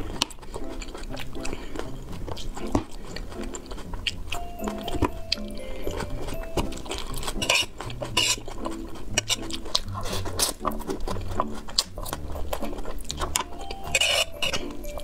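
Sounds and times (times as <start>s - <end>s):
noodles slurping: 0.0s - 4.4s, 6.8s - 15.0s
wet chewing smacks: 0.0s - 4.4s, 6.8s - 14.7s.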